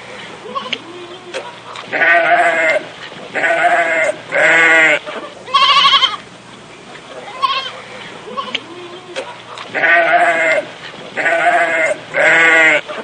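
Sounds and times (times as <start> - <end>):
goat bleating: 0.4 - 6.2, 7.2 - 13.0.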